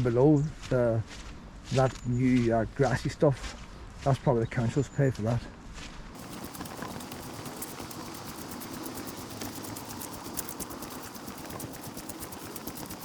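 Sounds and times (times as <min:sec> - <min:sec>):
footsteps on outdoor path: 0:00.0 - 0:13.0.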